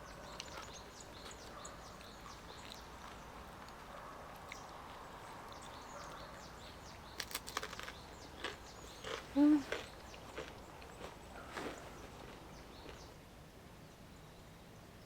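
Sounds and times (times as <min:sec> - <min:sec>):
outdoor ambience: 0:00.0 - 0:15.0.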